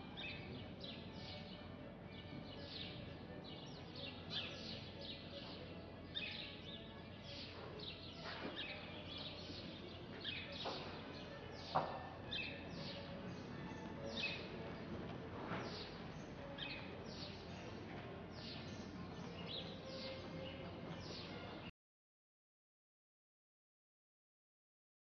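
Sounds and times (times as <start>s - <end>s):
small birds chirping: 0.1s - 14.9s, 15.6s - 21.7s.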